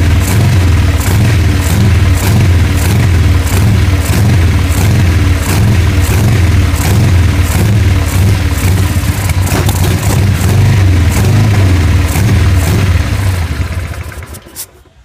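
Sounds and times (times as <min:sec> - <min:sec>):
motorcycle engine misfiring: 0:00.0 - 0:15.0.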